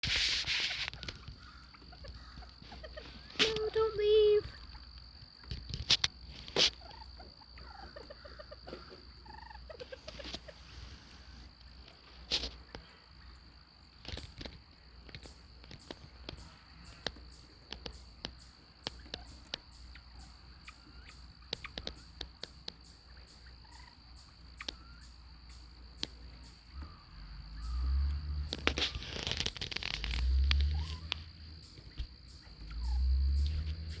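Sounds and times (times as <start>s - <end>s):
quail chirping softly: 0.2s - 13.6s, 15.1s - 34.0s.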